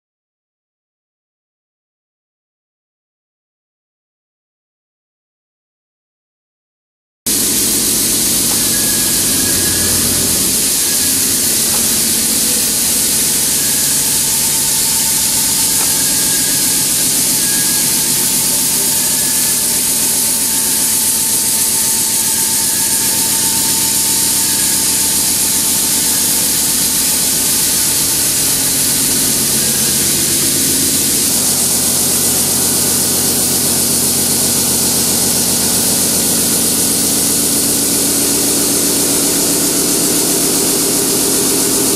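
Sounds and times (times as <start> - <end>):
boring mill running: 7.3 - 41.9
thin steady tone: 7.3 - 41.9.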